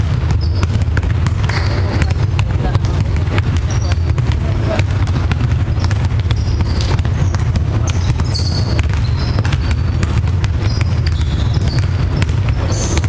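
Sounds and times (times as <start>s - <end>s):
basketballs bouncing on gym floor: 0.0s - 13.0s
shoes squeaking on court: 0.0s - 13.0s
steady low hum: 0.0s - 13.0s.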